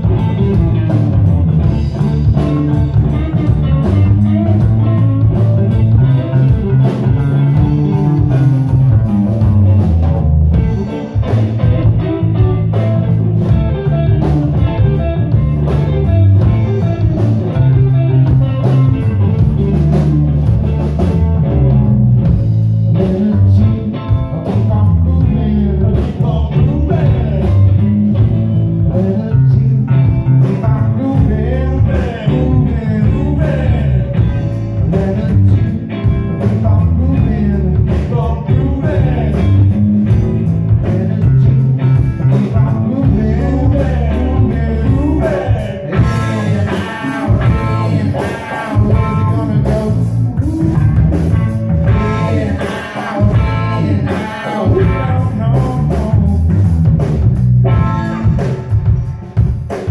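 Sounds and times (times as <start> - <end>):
drum kit steady beat: 0.0 - 59.9
electric bass line: 0.0 - 59.9
electric guitar: 0.0 - 59.9.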